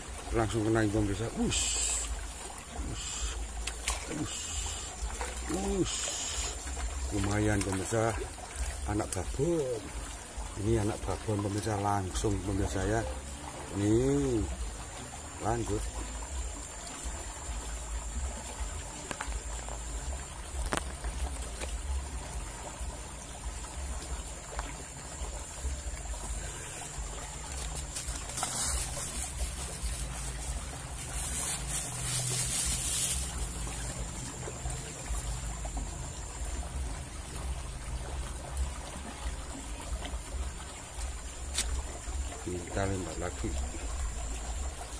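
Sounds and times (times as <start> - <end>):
water rushing along ditch: 0.0 - 44.9.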